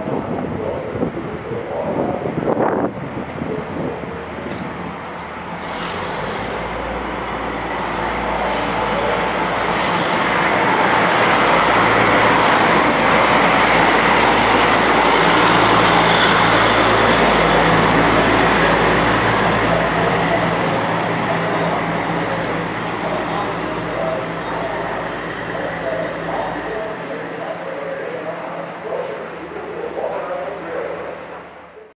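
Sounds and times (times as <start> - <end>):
diesel rail car engine drone: 0.0 - 31.9
wheels rumbling on rails: 0.0 - 31.9.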